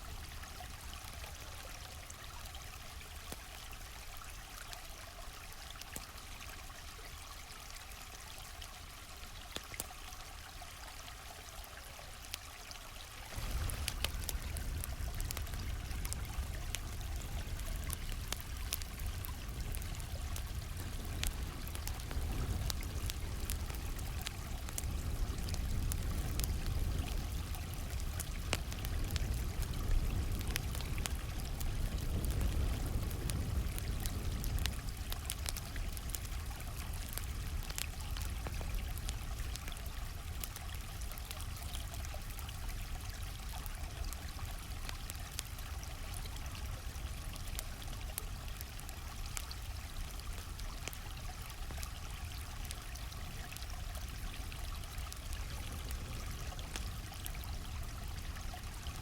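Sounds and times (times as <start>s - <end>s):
campfire crackling and popping: 0.0s - 6.5s, 8.5s - 10.6s, 11.7s - 59.0s
stream water flowing: 0.0s - 59.0s.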